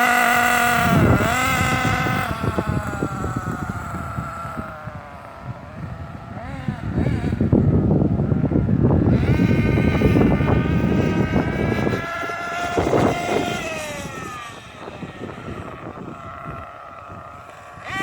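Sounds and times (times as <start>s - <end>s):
rc car motor buzzing: 0.0s - 18.0s
wind buffeting microphone: 0.0s - 18.0s.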